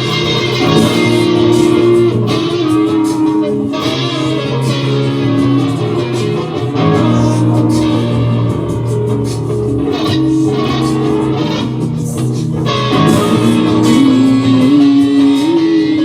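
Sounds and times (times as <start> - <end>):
bass line: 0.0 - 15.6
guitar-led instrumental music: 0.0 - 16.0.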